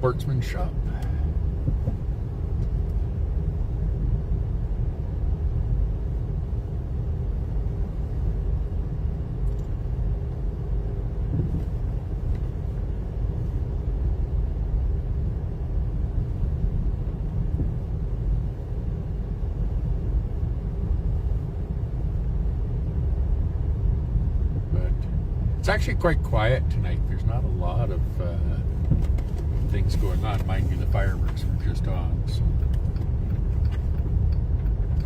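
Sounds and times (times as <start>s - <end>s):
engine and tyre rumble: 0.0s - 35.0s.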